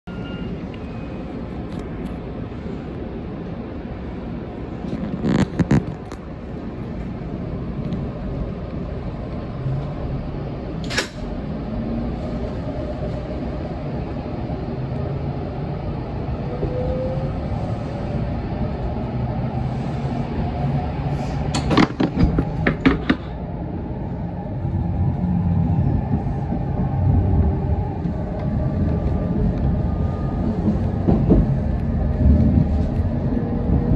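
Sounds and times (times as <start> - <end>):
train rumble: 0.0 - 33.9.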